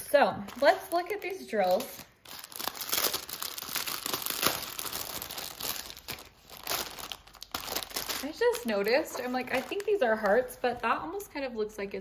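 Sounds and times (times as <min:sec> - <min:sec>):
plastic bag crinkling: 0:00.4 - 0:11.4.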